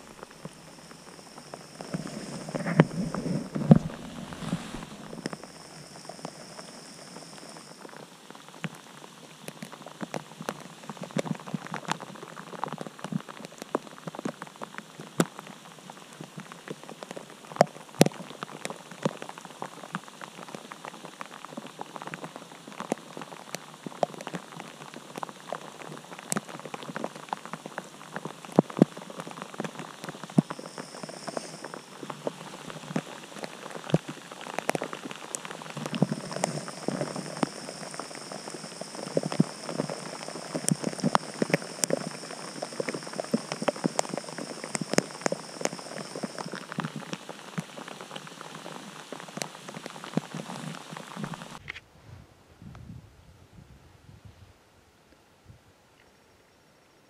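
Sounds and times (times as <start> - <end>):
raindrops ticking: 0.0 - 51.6
steady rain hiss: 0.0 - 51.8.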